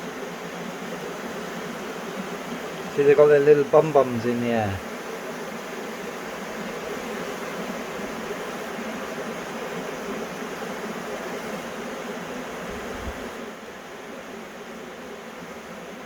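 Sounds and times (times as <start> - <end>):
bee swarm buzzing: 0.1 - 13.5.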